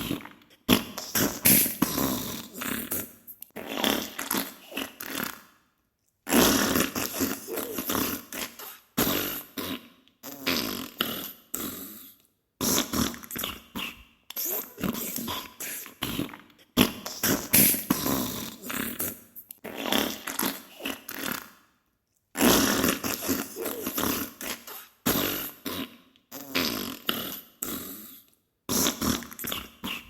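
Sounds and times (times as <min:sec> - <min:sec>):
farting bursts: 0:00.0 - 0:05.5, 0:06.3 - 0:12.0, 0:12.6 - 0:21.6, 0:22.4 - 0:28.1, 0:28.7 - 0:30.0.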